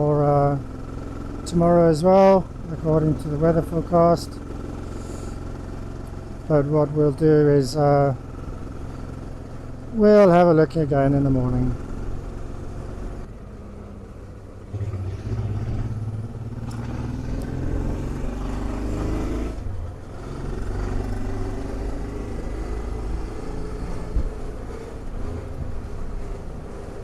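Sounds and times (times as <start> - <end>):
motorcycle engine revving: 0.0 - 27.0
road and wind rumble: 0.0 - 27.0.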